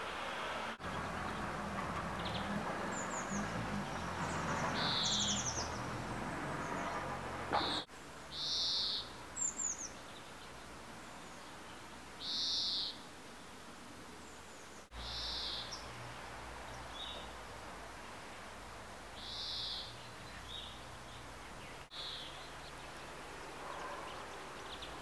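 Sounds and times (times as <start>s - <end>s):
small birds calling: 0.7s - 13.1s, 14.2s - 16.0s, 19.1s - 25.0s.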